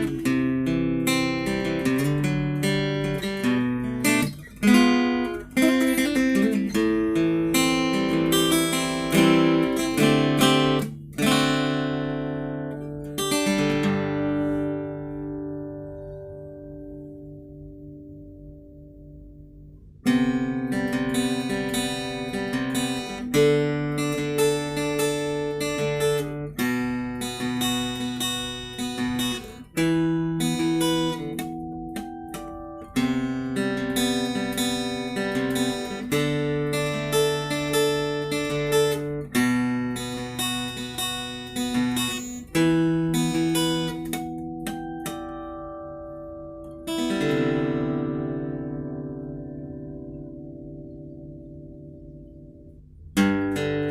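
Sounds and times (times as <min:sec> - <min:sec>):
acoustic guitar chords: 0:00.0 - 0:53.9.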